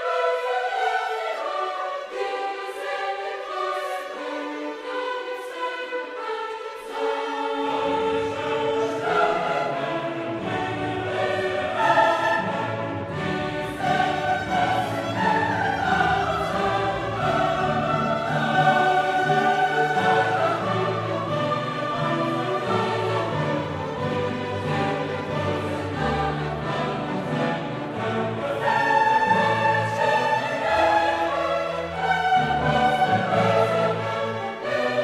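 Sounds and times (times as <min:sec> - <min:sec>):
choral orchestral music: 0:00.0 - 0:35.0.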